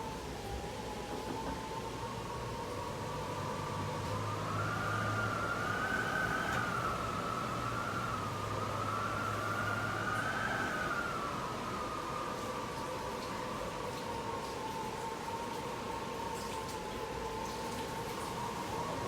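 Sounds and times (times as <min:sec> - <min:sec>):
distant siren wailing: 0:00.0 - 0:19.0.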